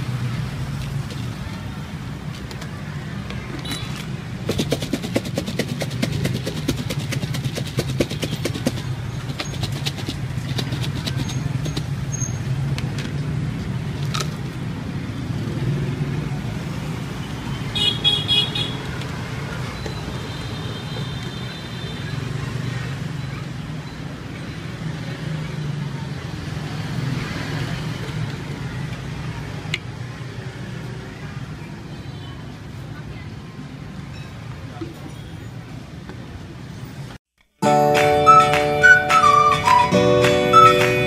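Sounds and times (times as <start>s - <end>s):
street traffic rumble: 0.0s - 41.0s.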